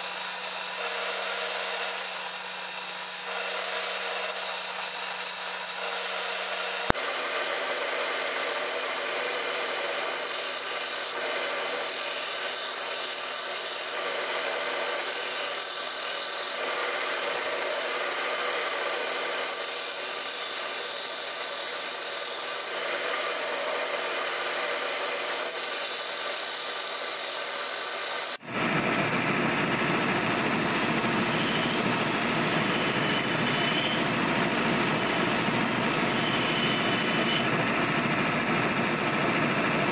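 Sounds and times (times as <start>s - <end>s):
belt grinder grinding knife blade: 0.0s - 28.4s, 30.8s - 37.6s.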